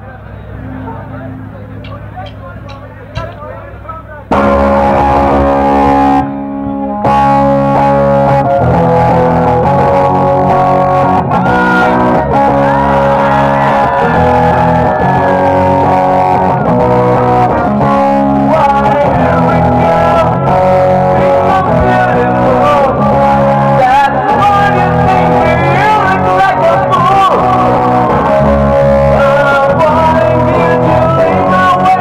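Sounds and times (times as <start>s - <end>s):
bass guitar: 0.0s - 32.0s
distorted electric guitar: 0.0s - 32.0s.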